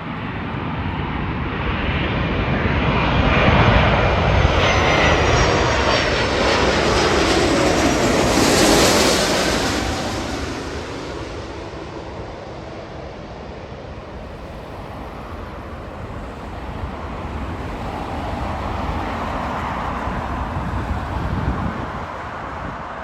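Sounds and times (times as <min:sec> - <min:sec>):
wind rumble on microphone: 0:00.0 - 0:11.6, 0:13.9 - 0:23.0
jet engine noise: 0:00.0 - 0:23.0.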